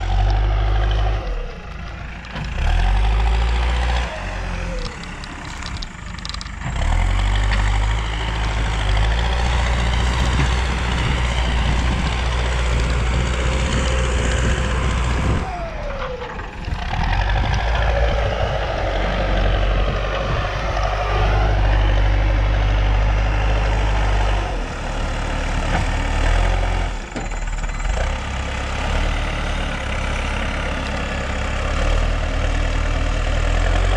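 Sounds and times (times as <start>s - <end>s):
backhoe diesel engine working: 0.0s - 33.9s.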